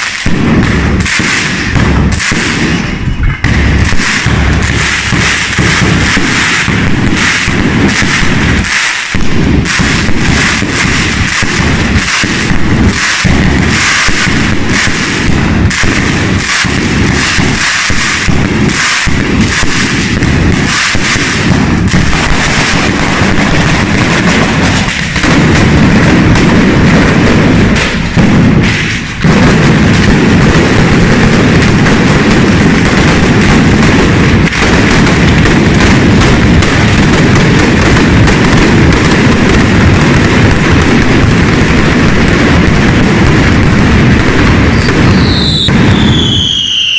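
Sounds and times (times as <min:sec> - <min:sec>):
firecrackers banging: 0:00.0 - 0:46.9.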